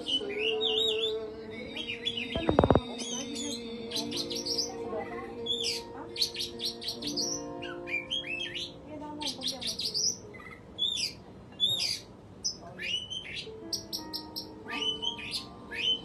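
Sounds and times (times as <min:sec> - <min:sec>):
bird singing chirps and whistles: 0:00.0 - 0:04.8, 0:05.4 - 0:10.2, 0:10.8 - 0:16.0.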